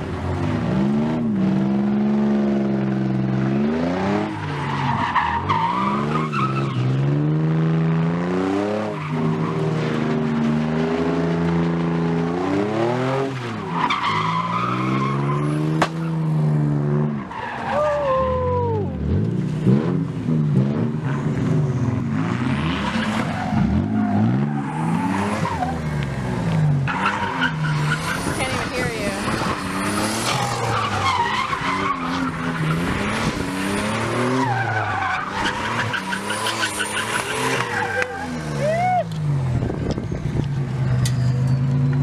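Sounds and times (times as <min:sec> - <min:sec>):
car engines revving: 0:00.0 - 0:42.0.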